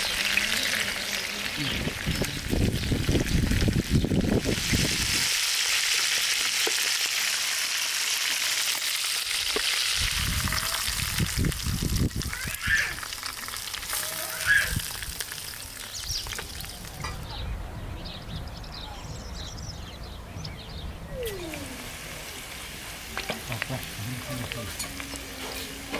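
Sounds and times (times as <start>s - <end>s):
food sizzling in hot oil: 0.0s - 17.0s, 21.3s - 25.9s.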